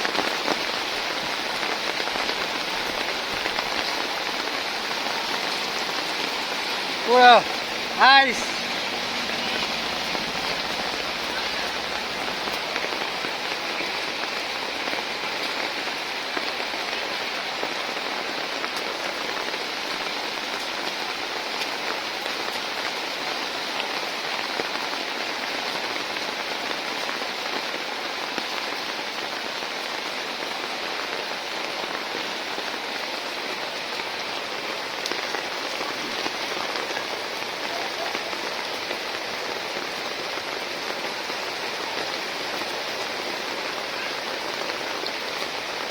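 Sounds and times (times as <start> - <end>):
heavy rain hissing: 0.0 - 45.9.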